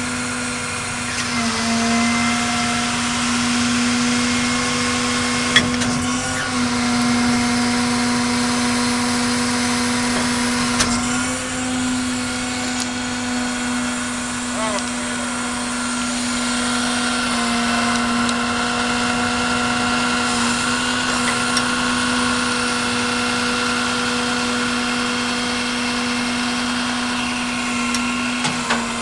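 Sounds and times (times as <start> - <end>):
steady hydraulic machine hum: 0.0 - 29.0.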